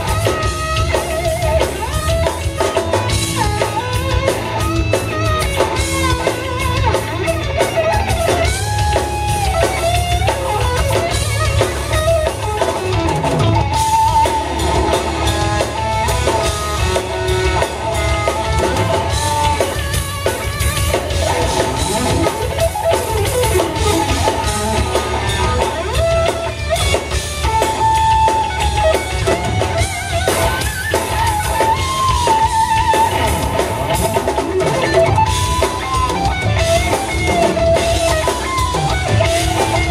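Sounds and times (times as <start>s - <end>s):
bass guitar: 0.0s - 39.9s
drum kit: 0.0s - 39.9s
electric guitar lead: 0.0s - 39.9s.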